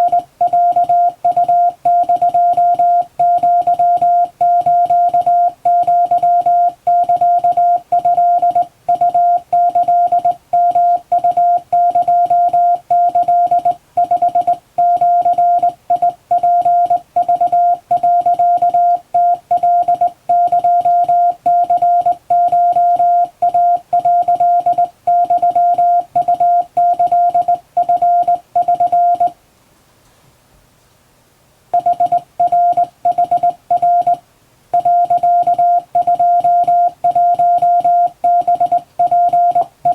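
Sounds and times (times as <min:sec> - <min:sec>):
morse code beeps: 0:00.0 - 0:29.4, 0:31.8 - 0:34.2, 0:34.8 - 0:39.9.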